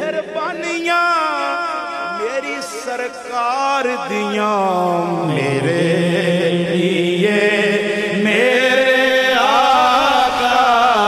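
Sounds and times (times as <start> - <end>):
man chanting unaccompanied: 0.0 - 11.0.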